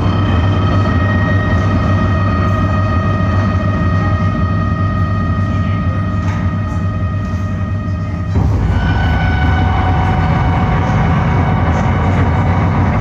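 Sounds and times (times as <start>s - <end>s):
electric guitar ambient drone: 0.0s - 13.0s.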